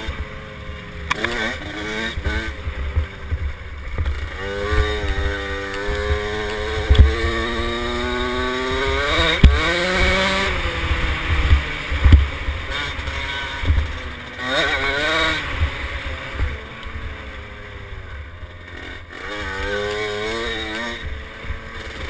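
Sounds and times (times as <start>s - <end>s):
two-stroke dirt bike revving: 0.0s - 22.0s.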